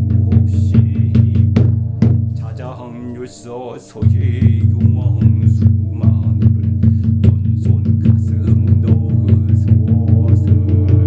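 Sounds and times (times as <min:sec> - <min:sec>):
pulsing bass tone: 0:00.0 - 0:03.3, 0:04.0 - 0:11.0
regular beat: 0:00.0 - 0:11.0.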